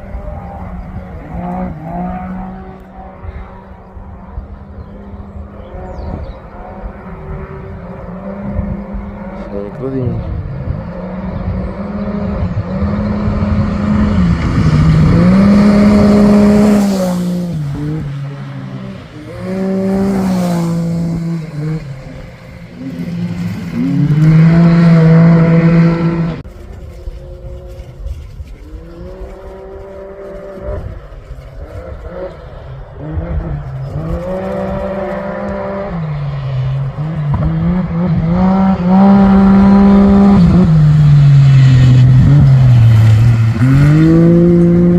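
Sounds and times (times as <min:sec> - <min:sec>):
rally vehicles revving past: 0:00.0 - 0:28.0, 0:28.7 - 0:44.9.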